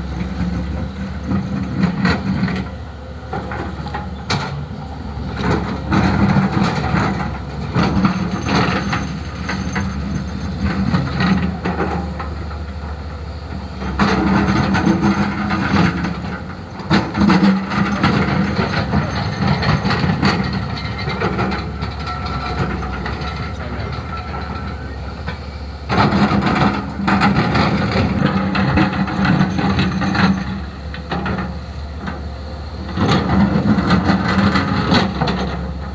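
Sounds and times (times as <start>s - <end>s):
excavator diesel engine under load: 0.0s - 35.9s
knocks and clatter: 0.2s - 13.0s, 13.8s - 35.9s.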